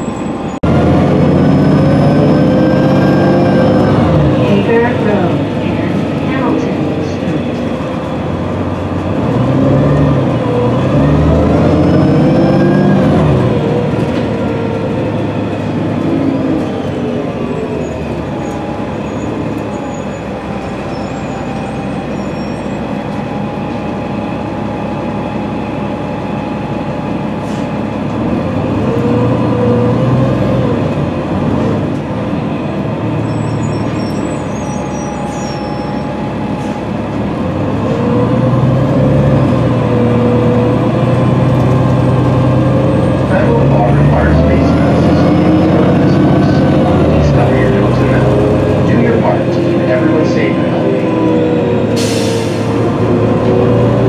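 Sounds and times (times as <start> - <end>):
bus engine accelerating: 0.0 - 54.0.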